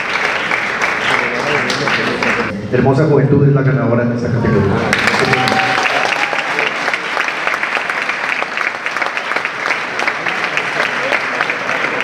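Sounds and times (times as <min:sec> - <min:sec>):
audience applauding: 0:00.0 - 0:02.5, 0:04.8 - 0:12.0.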